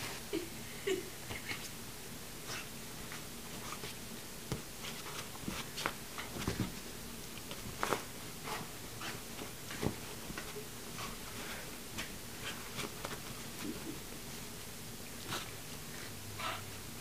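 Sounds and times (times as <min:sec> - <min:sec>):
animals scuffling on couch: 0:02.4 - 0:16.9.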